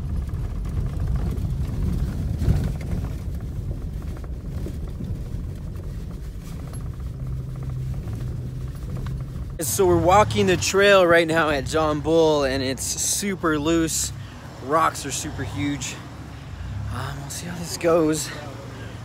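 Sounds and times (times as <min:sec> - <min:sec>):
truck engine and tyres on gravel: 0:00.0 - 0:19.0
vehicle jolt: 0:00.0 - 0:19.0.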